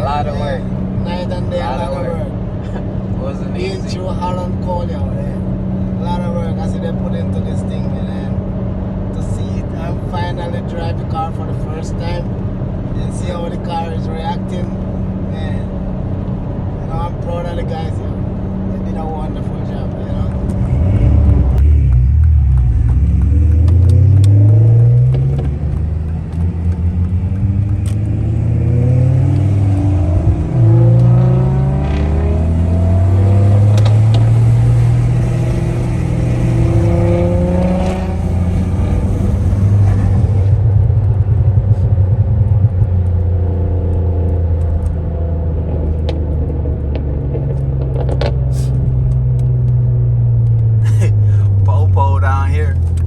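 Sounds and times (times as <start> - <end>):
turbo car engine accelerating: 0.0 - 53.0.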